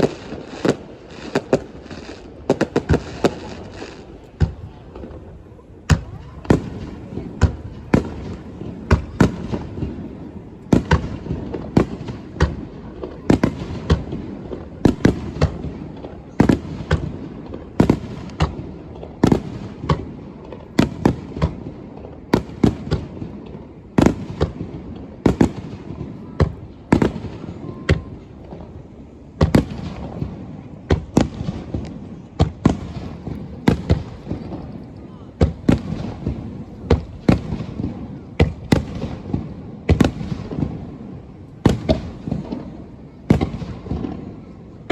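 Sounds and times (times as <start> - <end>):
fireworks booming: 0.0 - 44.9.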